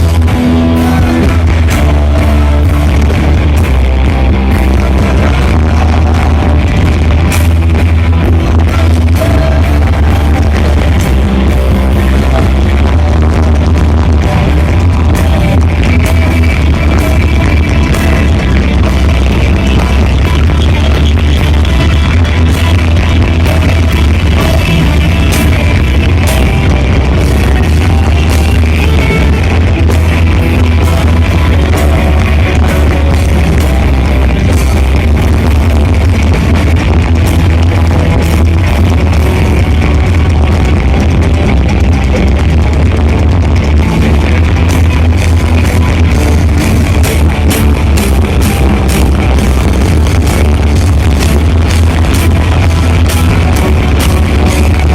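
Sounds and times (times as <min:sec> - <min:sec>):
electric guitar: 0:00.0 - 0:54.9
heavy bass: 0:00.0 - 0:54.9
rock band playing: 0:00.0 - 0:54.9.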